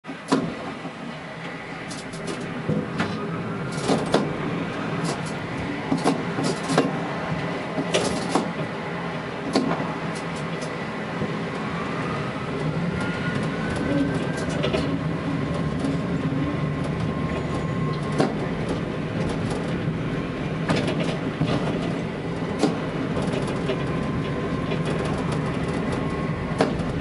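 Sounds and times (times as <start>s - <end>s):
tram rumbling along track: 0.0s - 27.0s.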